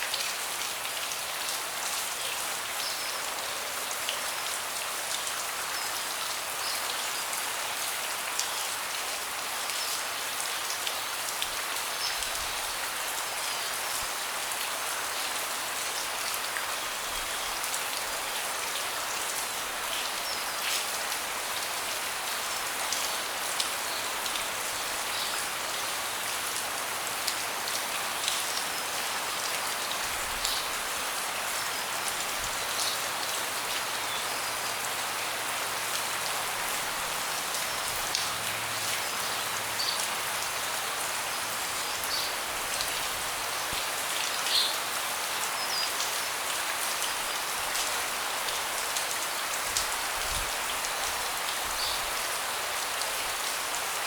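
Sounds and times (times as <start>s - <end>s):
rain on a deck: 0.0s - 54.0s.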